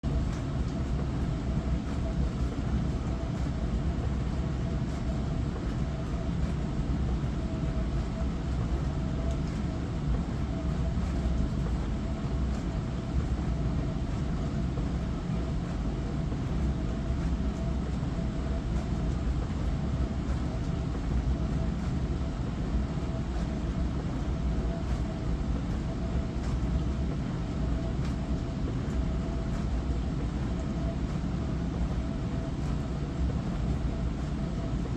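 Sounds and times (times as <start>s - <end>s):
faint motor whine: 0.1s - 34.9s.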